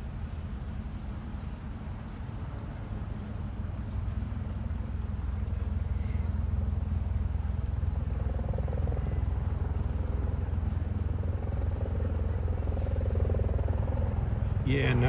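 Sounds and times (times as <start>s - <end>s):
faint higher hum: 0.0s - 15.0s
steady low rumble: 0.0s - 15.0s.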